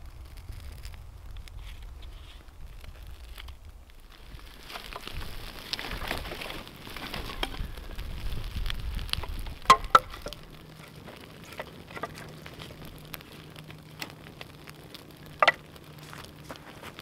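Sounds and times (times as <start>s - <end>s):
fire crackling and hissing: 0.0s - 17.0s
sharp pops of burning wood: 0.0s - 17.0s.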